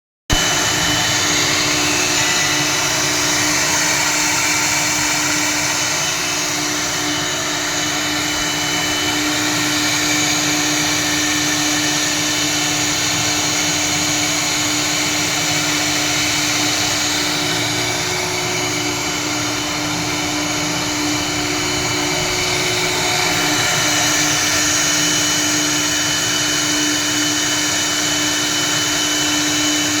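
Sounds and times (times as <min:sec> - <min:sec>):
router machine hum and hiss: 0:00.3 - 0:30.0.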